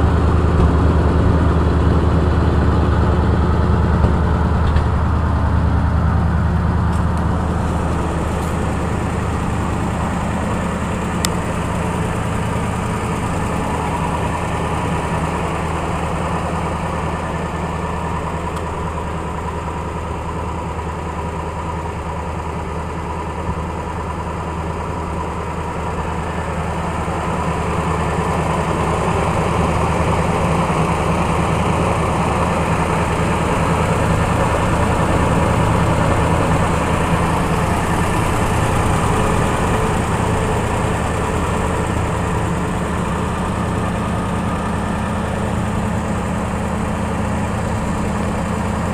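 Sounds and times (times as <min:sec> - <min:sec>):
truck engine idling: 0:00.0 - 0:48.9.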